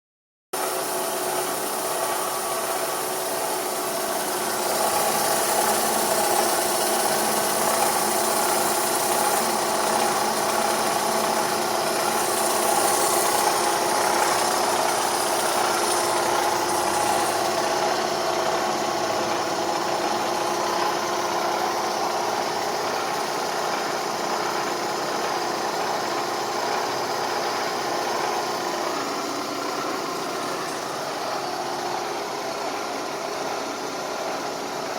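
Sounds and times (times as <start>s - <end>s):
car engine running with rattling: 0.6s - 34.9s.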